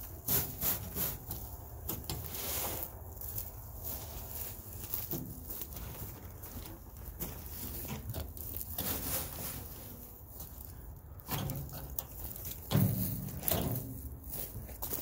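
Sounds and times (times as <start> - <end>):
soil pouring and sliding: 0.0 - 15.0.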